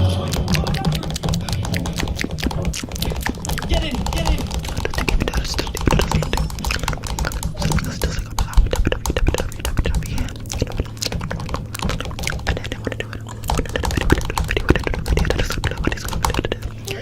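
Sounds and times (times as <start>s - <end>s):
rapid irregular clicking and clattering: 0.0s - 16.9s
steady low hum: 0.0s - 17.0s.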